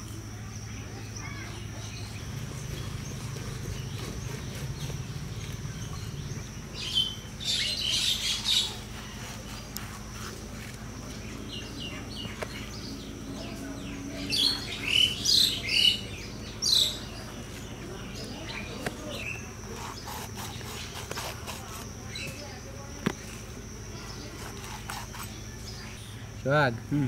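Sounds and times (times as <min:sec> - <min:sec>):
small birds chirping: 0:00.0 - 0:27.0
steady low hum: 0:00.0 - 0:27.0.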